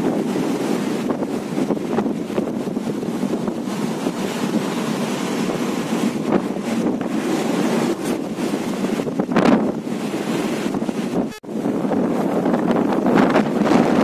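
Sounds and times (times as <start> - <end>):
waves breaking: 0.0 - 14.0
wind buffeting microphone: 0.0 - 14.0.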